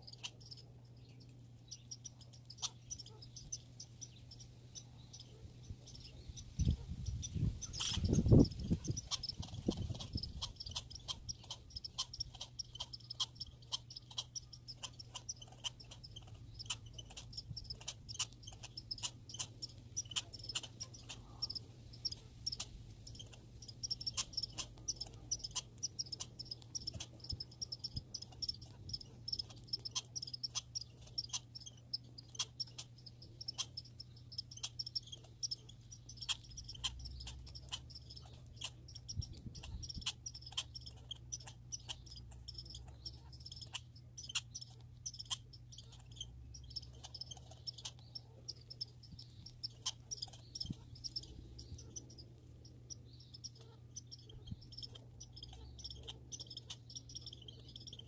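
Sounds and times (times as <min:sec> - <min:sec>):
squirrel chewing clicks: 0:00.0 - 0:58.0
steady low hum: 0:00.0 - 0:58.0.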